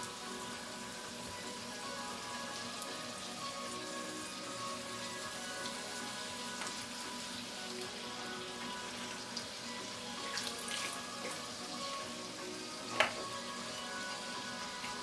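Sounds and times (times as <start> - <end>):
potatoes sizzling in a skillet: 0.0 - 15.0.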